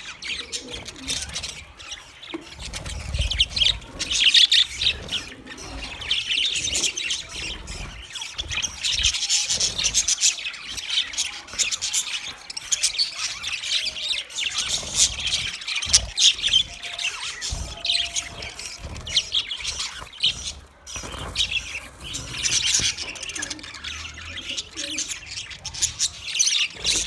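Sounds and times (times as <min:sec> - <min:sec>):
budgerigars chirping and chattering: 0:00.0 - 0:27.0.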